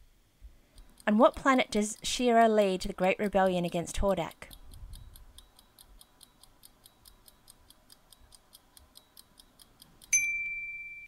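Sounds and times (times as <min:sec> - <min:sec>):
clock ticking timer: 0:00.7 - 0:10.7.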